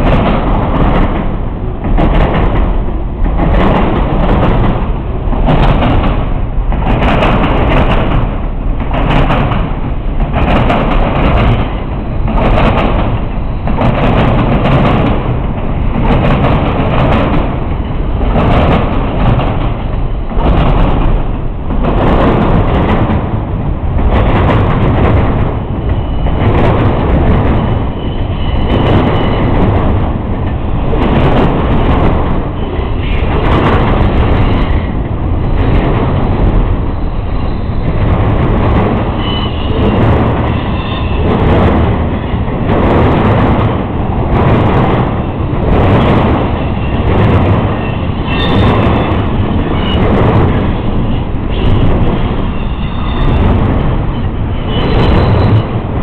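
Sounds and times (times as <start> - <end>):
freight train rumbling past: 0.0 - 56.0
wheels clacking over rail joints: 0.0 - 56.0.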